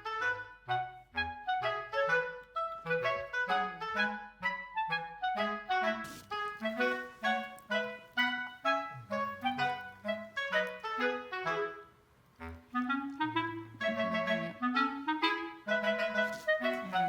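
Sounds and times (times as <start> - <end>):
light bouncy woodwind music: 0.0 - 17.0.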